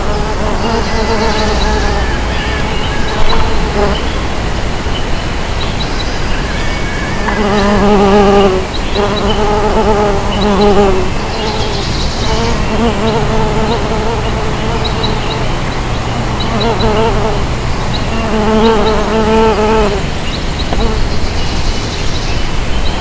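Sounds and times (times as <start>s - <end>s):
bees buzzing in flight: 0.0s - 21.6s.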